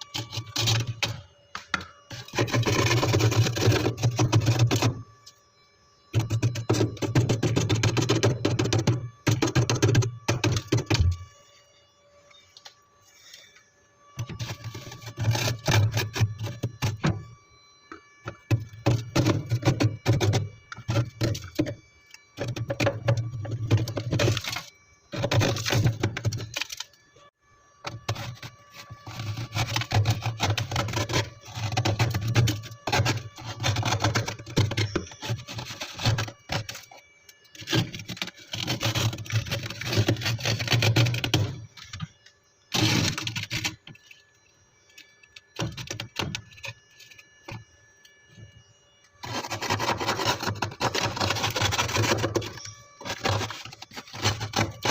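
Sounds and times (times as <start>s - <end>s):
frost ice scraping and crunching: 0.0s - 5.4s, 6.1s - 11.3s, 14.2s - 17.3s, 17.9s - 27.0s, 27.9s - 54.9s.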